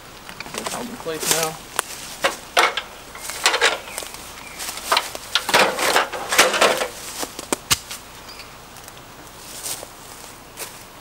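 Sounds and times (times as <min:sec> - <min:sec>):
footsteps through dry leaves: 0:00.5 - 0:11.0.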